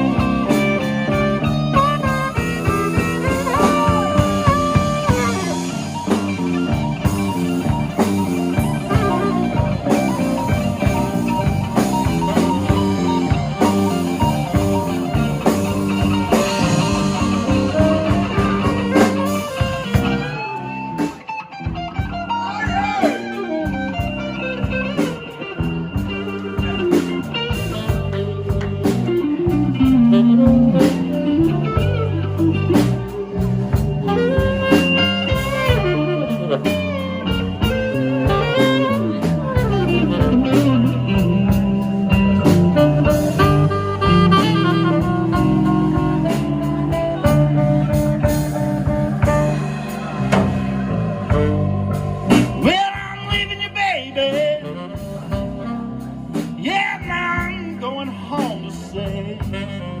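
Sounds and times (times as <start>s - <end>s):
lead guitar: 0.0s - 60.0s
live blues band playing: 0.0s - 60.0s.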